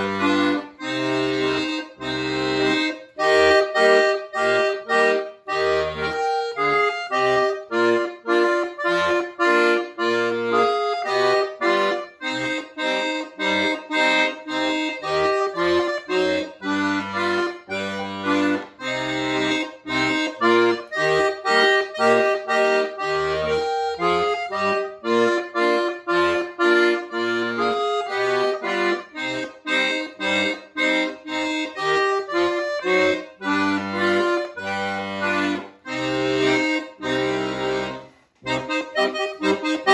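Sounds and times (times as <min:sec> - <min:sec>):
button accordion playing a tune: 0:00.0 - 0:39.9.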